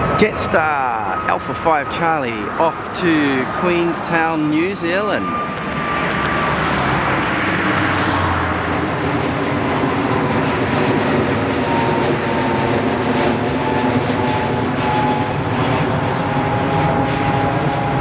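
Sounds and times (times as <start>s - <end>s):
jet engine roar: 0.0s - 18.0s
jet engine whine: 0.0s - 18.0s.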